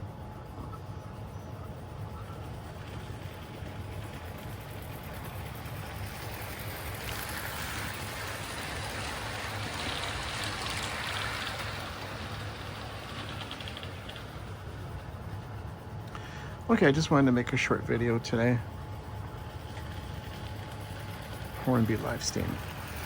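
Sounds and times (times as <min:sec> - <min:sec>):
wheels rumbling on rails: 0:01.5 - 0:23.0.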